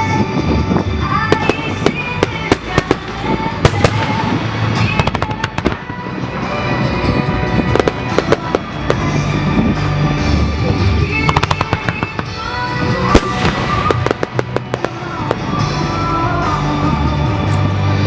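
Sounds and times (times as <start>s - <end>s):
fireworks bursting and crackling: 0.0s - 17.0s
music playing: 0.0s - 18.0s.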